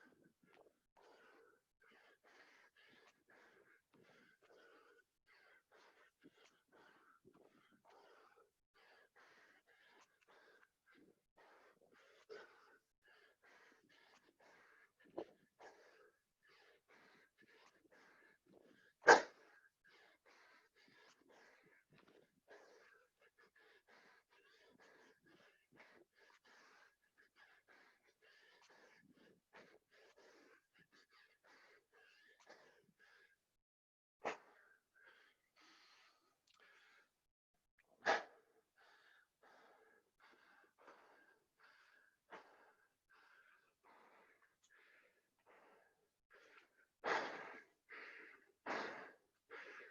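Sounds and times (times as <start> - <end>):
person breathing hard: 0.0 - 33.6, 34.3 - 37.3, 38.0 - 49.9.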